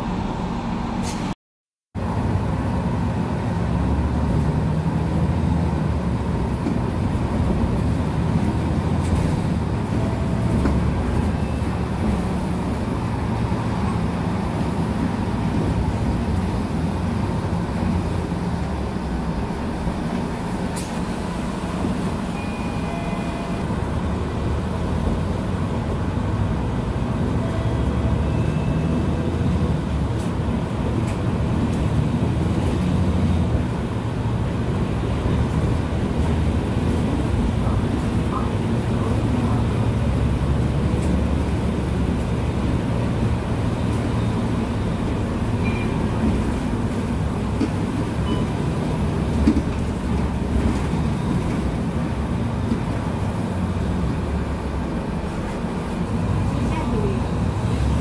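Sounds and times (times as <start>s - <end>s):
bus engine drone with road noise: 0.0s - 58.0s.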